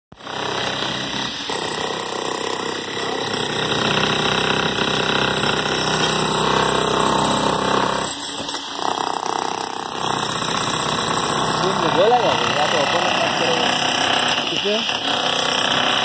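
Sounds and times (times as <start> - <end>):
demolition hammers chiselling concrete: 0.2 - 16.0.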